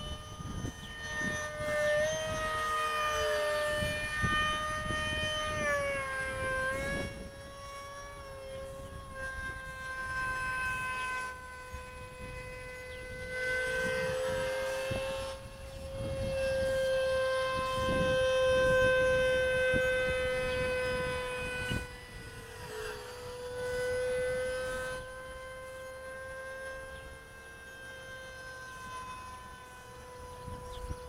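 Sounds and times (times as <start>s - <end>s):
wind rumble on microphone: 0.0s - 25.8s, 26.4s - 31.0s
model jet fan whining: 0.0s - 31.0s.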